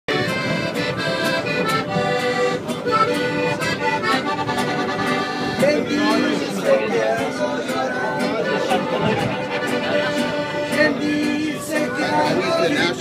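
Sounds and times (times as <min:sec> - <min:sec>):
accordion melody: 0:00.1 - 0:13.0
mariachi-style band music: 0:00.1 - 0:13.0.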